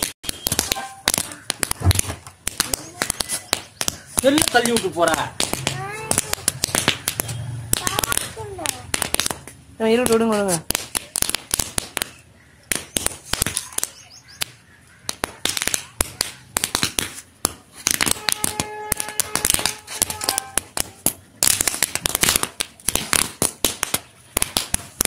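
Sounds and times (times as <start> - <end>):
paper caps popping: 0.0 - 25.0.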